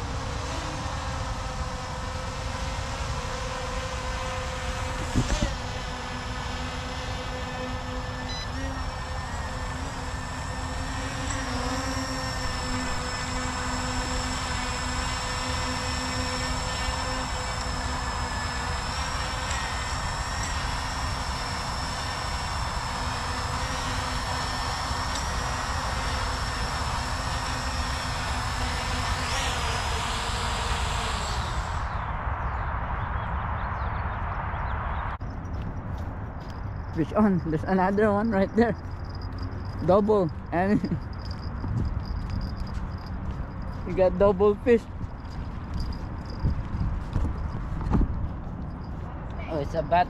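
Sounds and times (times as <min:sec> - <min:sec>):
drone propellers buzzing: 0:00.0 - 0:33.6, 0:34.2 - 0:50.0.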